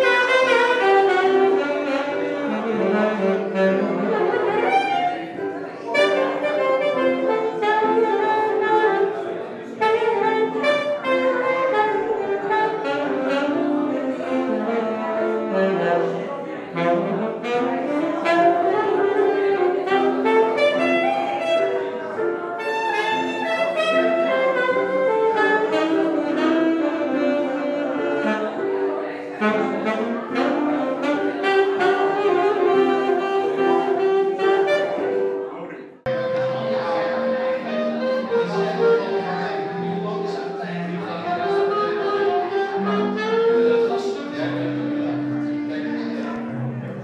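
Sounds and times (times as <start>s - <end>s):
saxophone playing jazz: 0.0s - 47.0s.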